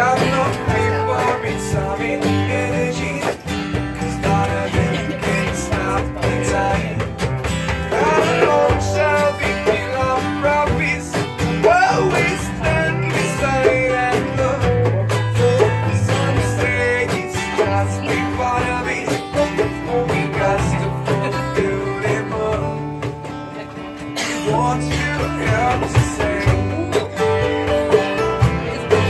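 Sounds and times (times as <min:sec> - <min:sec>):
bass notes: 0:00.0 - 0:29.0
guitar playing: 0:00.0 - 0:29.0
person singing: 0:00.0 - 0:29.0.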